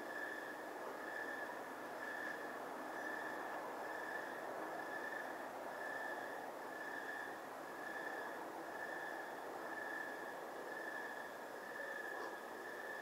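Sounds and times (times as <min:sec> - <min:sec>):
insect chirping: 0:00.0 - 0:13.0
steady background hiss: 0:00.0 - 0:13.0.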